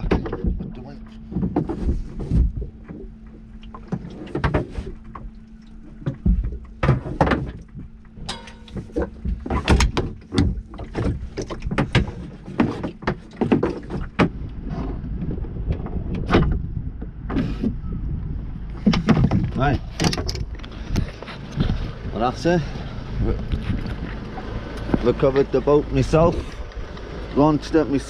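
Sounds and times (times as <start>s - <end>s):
steady low hum: 0.0s - 28.0s
winch and hull clanking: 0.0s - 28.0s.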